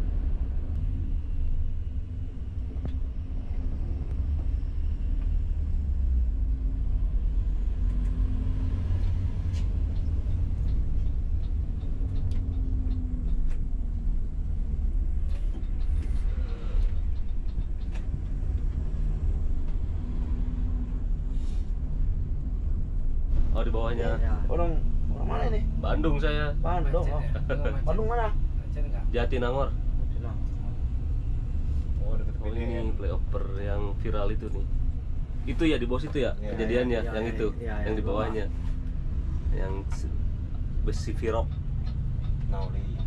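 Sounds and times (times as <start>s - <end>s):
coach engine and road rumble: 0.0s - 43.0s.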